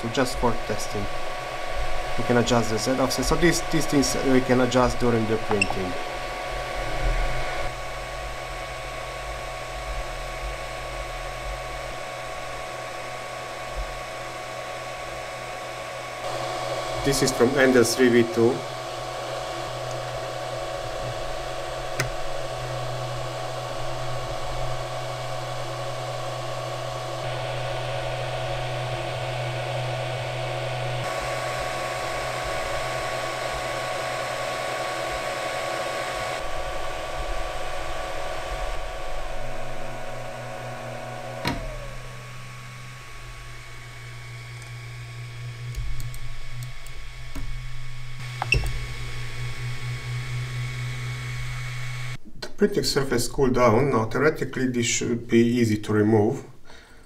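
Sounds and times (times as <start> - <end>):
hum tones: 0.0 - 52.2
printer cooling fans whirring: 0.0 - 52.2.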